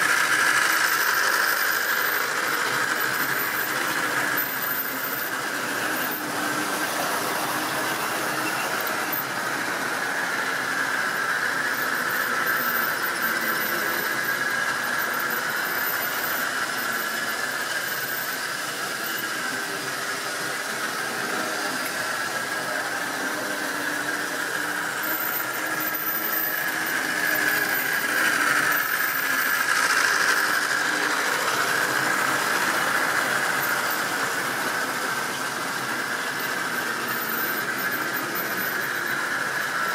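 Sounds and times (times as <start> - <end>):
model train whine and squeal: 0.0 - 39.9
wagons running on track: 0.0 - 39.9.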